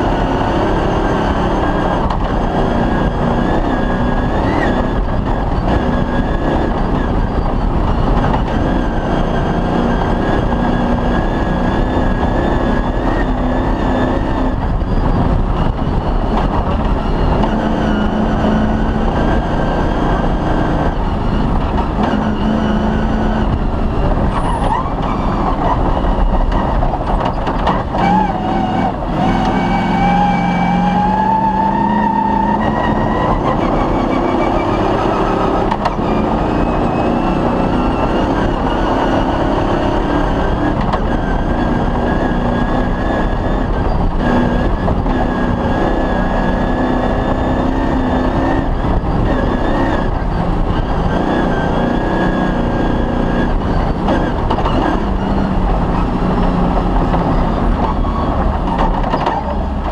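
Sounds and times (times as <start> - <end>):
rally car engine running hard: 0.0 - 59.9
tyre and road noise: 0.0 - 59.9.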